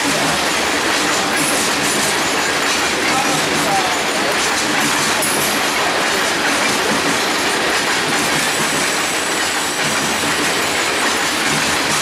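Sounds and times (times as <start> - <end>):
steel wheels on rails: 0.0 - 12.0.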